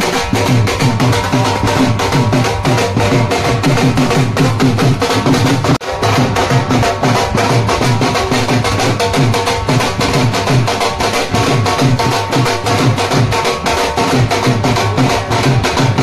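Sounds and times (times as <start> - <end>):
dhol drums fast rhythm: 0.0 - 16.0
melody over drums: 0.0 - 16.0.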